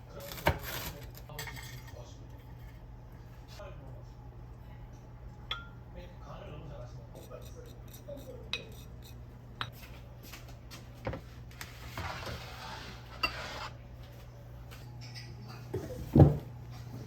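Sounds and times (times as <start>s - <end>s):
steady low hum: 1.0s - 17.0s.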